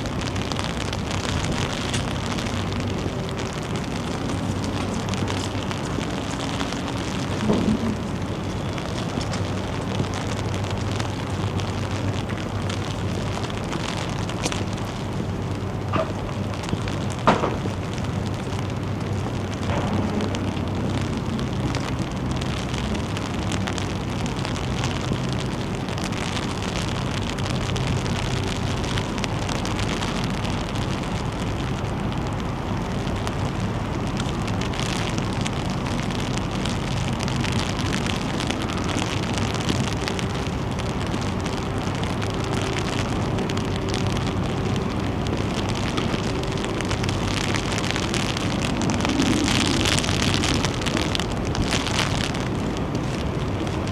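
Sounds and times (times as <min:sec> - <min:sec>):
low steady hum: 0:00.0 - 0:53.9
rain falling: 0:00.0 - 0:53.9
wind: 0:00.0 - 0:53.9.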